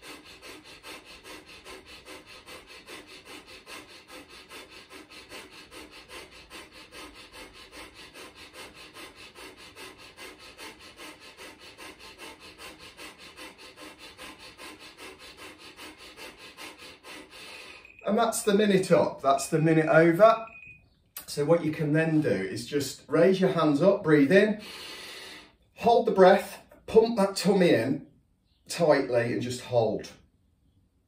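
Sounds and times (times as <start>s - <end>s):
man's rapid nasal breathing: 0.0s - 20.4s, 23.0s - 27.4s.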